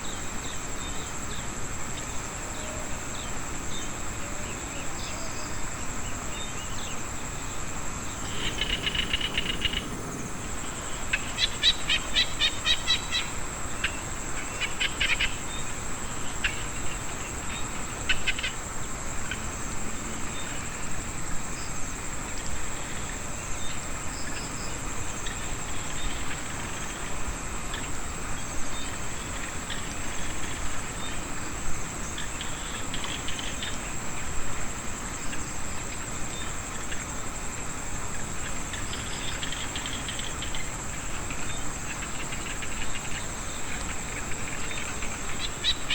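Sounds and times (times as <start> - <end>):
insects trilling: 0.0 - 45.9
frogs clicking calls: 8.1 - 34.3, 35.0 - 45.9.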